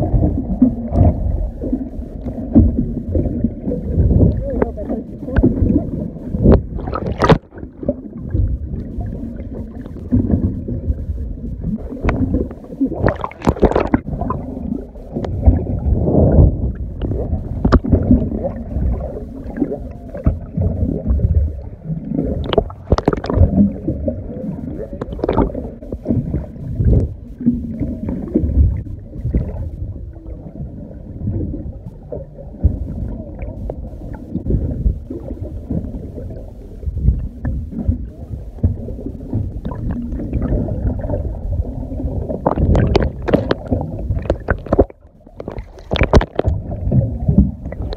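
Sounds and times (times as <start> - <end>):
low churning underwater noise: 0.0 - 47.9.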